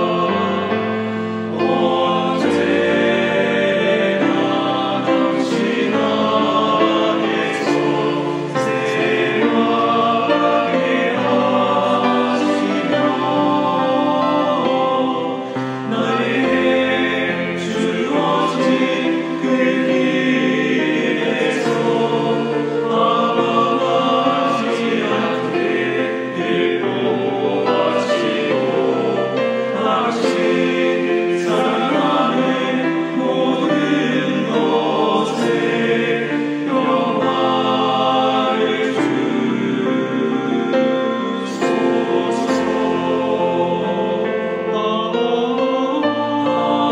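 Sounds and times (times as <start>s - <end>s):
men's choir singing a hymn: 0.0s - 46.9s.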